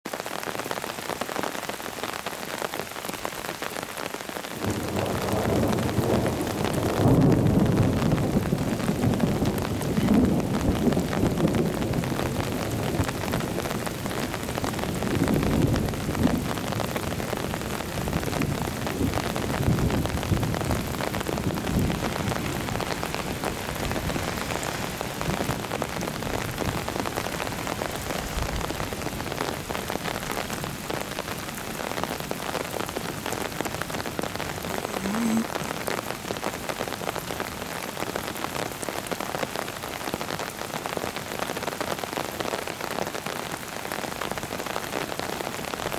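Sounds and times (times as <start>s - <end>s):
rain: 0.0s - 45.9s.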